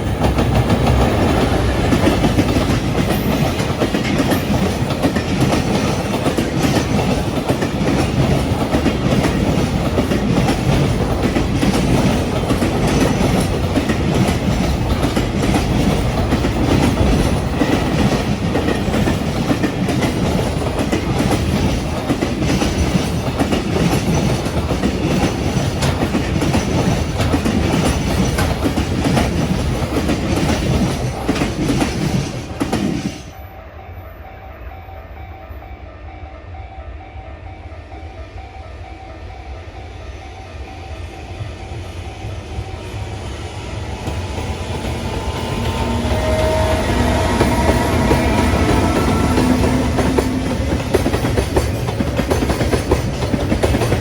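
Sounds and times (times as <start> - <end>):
freight train wheels on rails: 0.0 - 34.0, 37.6 - 54.0.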